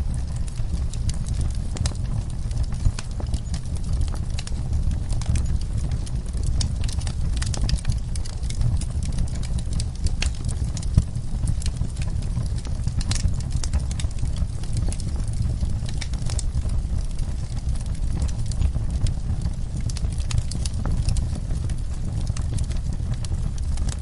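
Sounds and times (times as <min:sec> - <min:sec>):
fire crackling pops and snaps: 0:00.0 - 0:24.0
low fire rumble: 0:00.0 - 0:24.0.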